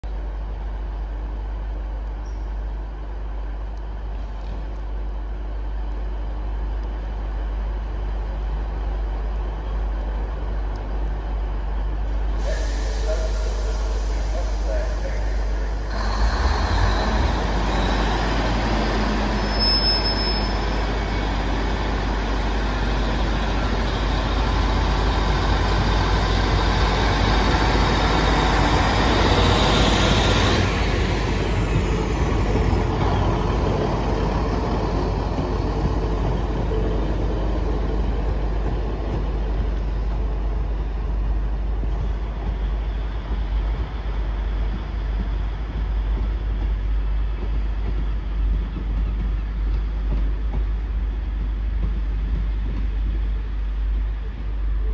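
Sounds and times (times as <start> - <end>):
diesel train engines: 0.0 - 54.9
train carriages rolling past: 0.2 - 54.9.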